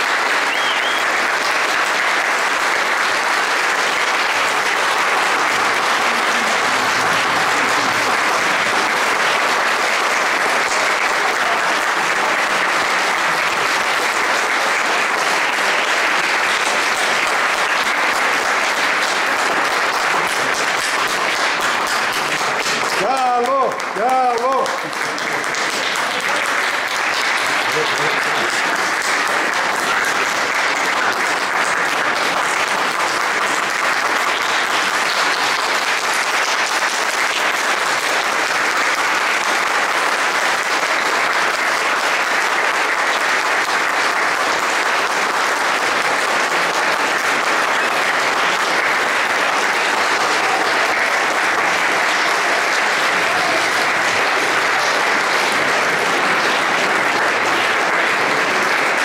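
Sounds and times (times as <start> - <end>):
audience applauding: 0.0 - 59.0.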